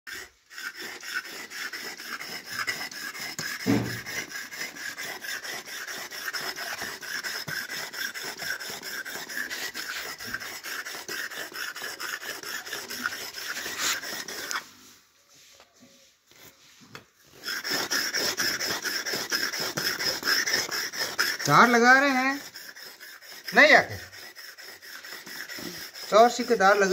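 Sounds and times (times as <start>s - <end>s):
blade rasping on sharpening stone: 0.1s - 14.7s, 17.4s - 26.9s.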